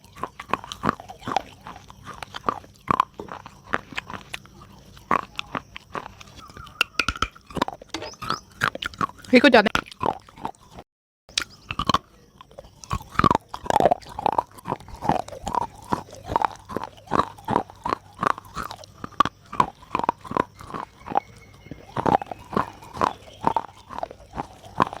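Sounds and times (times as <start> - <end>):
person chewing with crunchy bites: 0.0 - 25.0.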